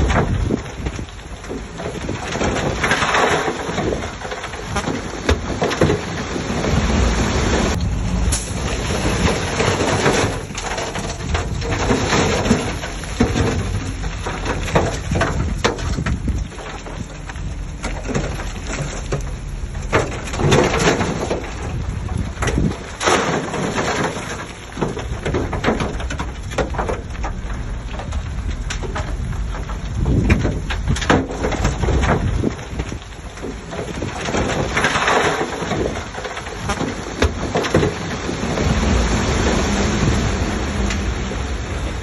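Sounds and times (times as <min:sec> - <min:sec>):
bulldozer engine rumble: 0:00.0 - 0:42.0
soil and stones crunching: 0:00.0 - 0:42.0.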